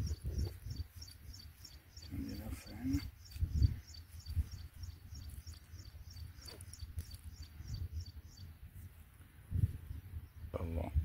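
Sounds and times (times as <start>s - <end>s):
wind rumble on microphone: 0.0s - 1.2s, 2.0s - 11.0s.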